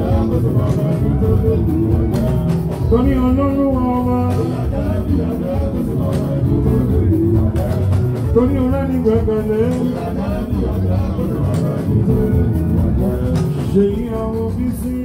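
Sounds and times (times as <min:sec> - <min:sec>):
percussion and bass: 0:00.0 - 0:15.0
person singing: 0:00.0 - 0:15.0.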